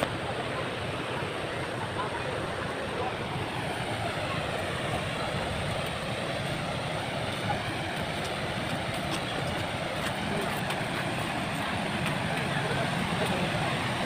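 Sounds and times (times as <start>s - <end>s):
moving vehicle rumble: 0.0s - 14.0s.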